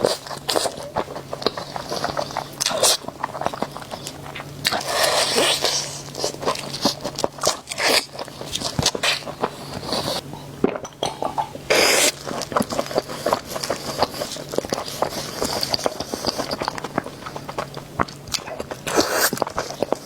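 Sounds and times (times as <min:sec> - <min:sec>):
close-miked chewing: 0:00.0 - 0:10.3, 0:11.0 - 0:20.0.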